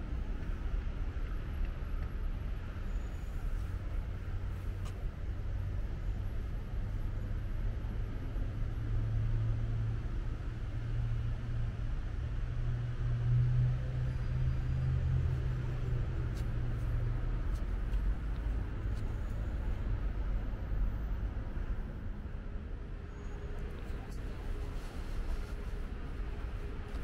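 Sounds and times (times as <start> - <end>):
city road traffic rumble: 0.0 - 27.0.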